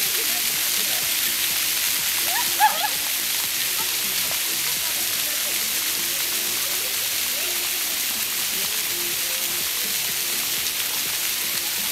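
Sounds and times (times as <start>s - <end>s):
fountain water jets splashing: 0.0s - 11.9s.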